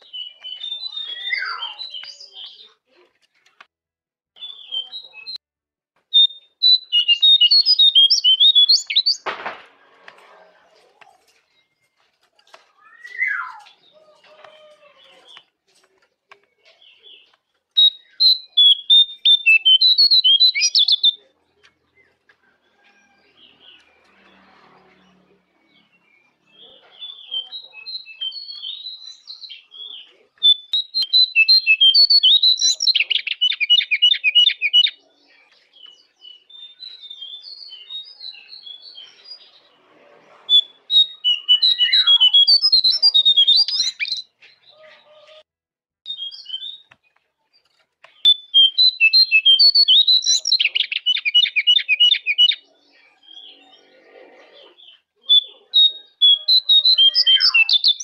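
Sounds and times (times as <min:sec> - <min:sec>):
songbird chirping and trilling: 0:00.0 - 0:03.7, 0:04.4 - 0:05.4, 0:06.1 - 0:09.3, 0:10.2 - 0:45.5, 0:46.1 - 0:58.0.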